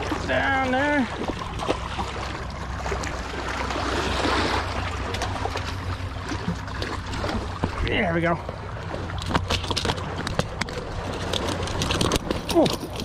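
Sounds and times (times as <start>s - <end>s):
water splashing against rocks: 0.0s - 13.0s.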